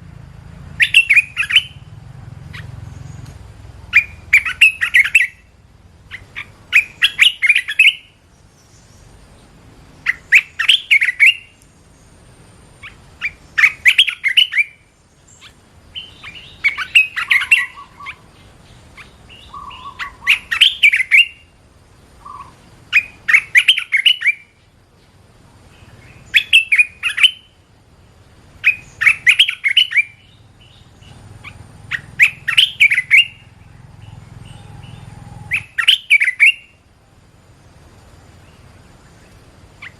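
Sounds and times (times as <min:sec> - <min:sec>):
bulbul chirping song: 0:00.1 - 0:39.9.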